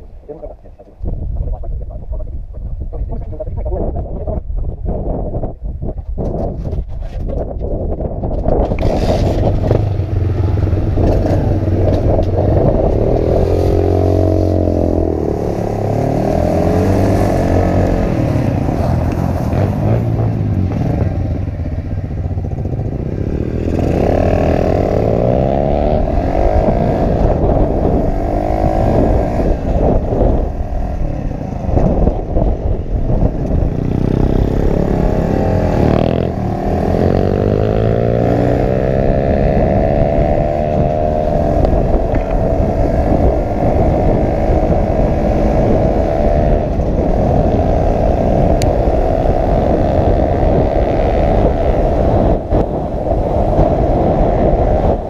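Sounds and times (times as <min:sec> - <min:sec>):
pit bike engine revving: 0:08.7 - 0:55.0.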